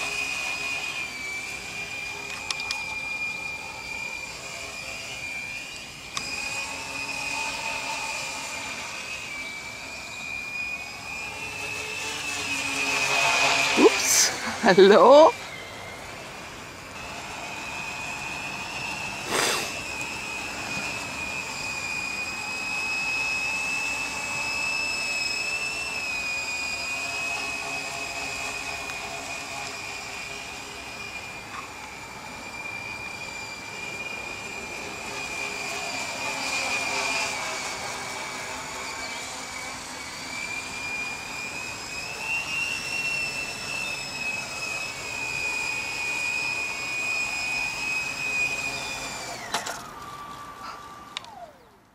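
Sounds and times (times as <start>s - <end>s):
drone motors whining: 0.0s - 51.9s.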